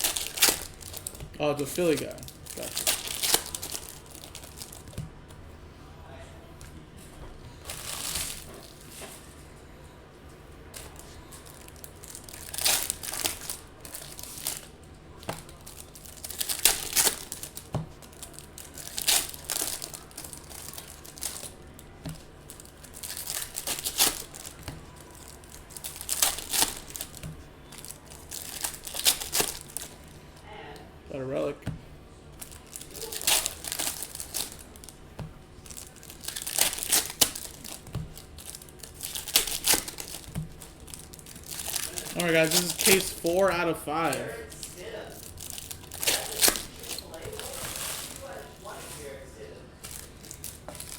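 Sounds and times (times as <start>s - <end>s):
card pack wrappers tearing and crinkling: 0.0s - 5.0s, 7.6s - 9.1s, 10.8s - 30.2s, 32.3s - 48.8s, 49.8s - 50.9s.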